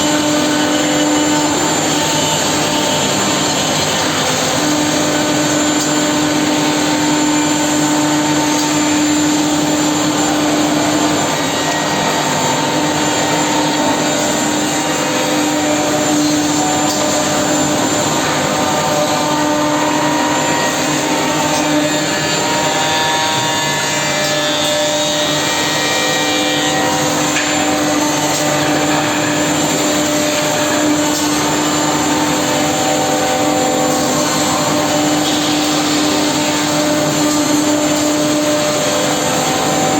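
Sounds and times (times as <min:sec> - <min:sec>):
machine humming and whining: 0:00.0 - 0:39.9.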